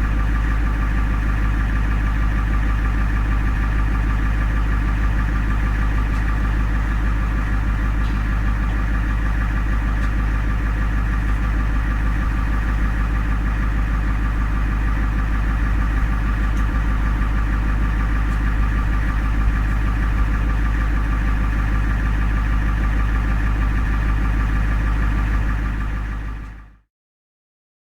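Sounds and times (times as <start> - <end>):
engine idling with whine: 0.0 - 26.9.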